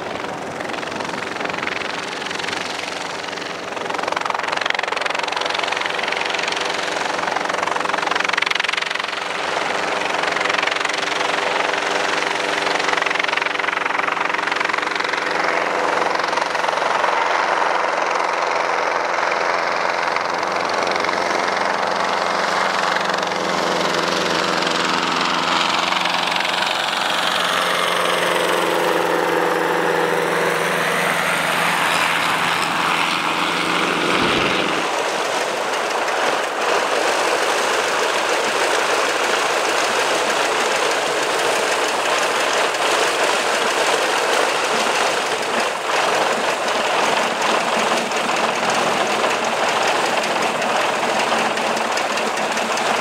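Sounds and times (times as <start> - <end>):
propeller plane engine running: 0.0 - 53.0.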